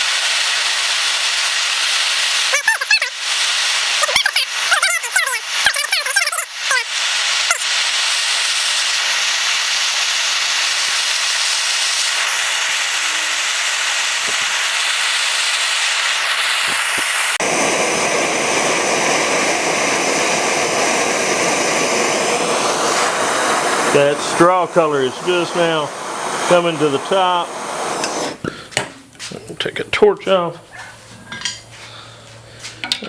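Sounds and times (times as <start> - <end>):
gas torch hissing: 0.0 - 32.9.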